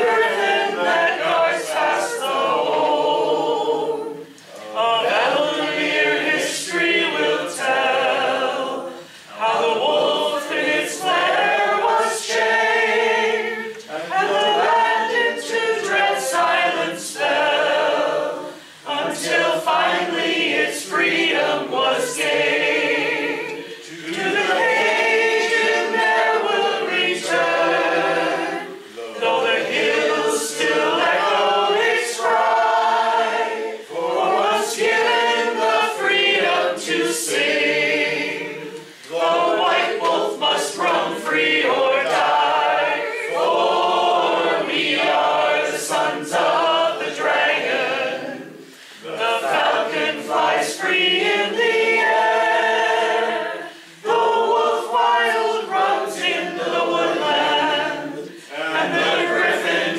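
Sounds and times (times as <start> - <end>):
group singing without instruments: 0.0 - 59.9.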